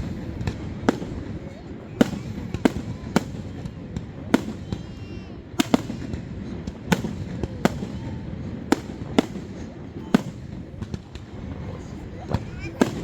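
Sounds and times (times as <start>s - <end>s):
low rumble of fireworks: 0.0s - 13.0s.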